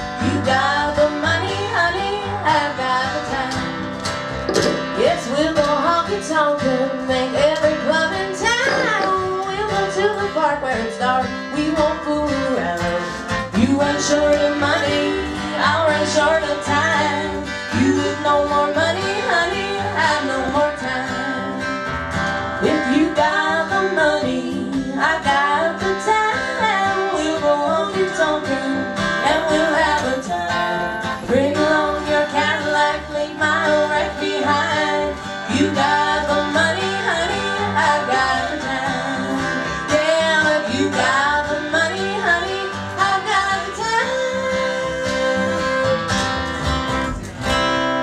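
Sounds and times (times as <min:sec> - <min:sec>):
women singing together: 0:00.0 - 0:03.9, 0:04.8 - 0:21.8, 0:22.6 - 0:46.1
acoustic guitar strumming: 0:00.0 - 0:48.0
plucked upright bass: 0:00.0 - 0:48.0.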